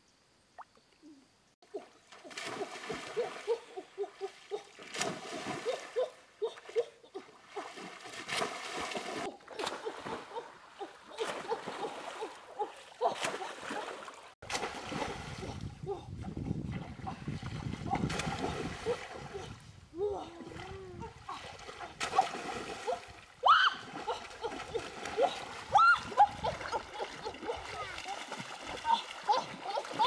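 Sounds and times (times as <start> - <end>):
river water splashing: 1.7 - 30.0.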